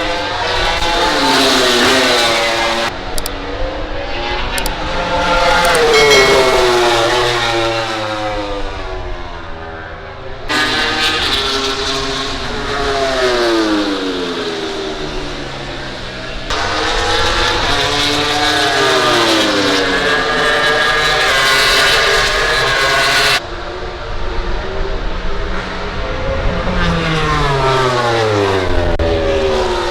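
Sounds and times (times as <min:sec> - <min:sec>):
racing motorcycle engines revving: 0:00.0 - 0:29.9.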